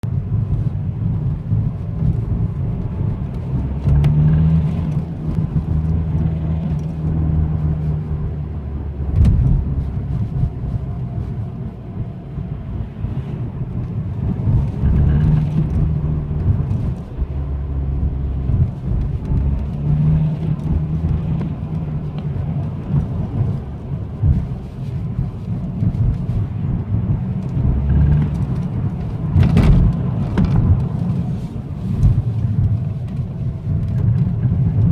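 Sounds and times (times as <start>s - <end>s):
diesel engine accelerating: 0.0s - 34.9s.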